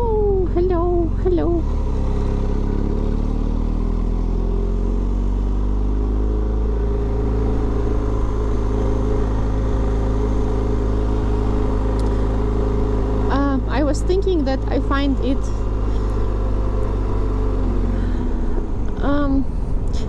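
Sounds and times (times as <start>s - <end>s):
heavy low rumble: 0.0s - 20.0s
motorcycle engine running: 0.0s - 20.0s.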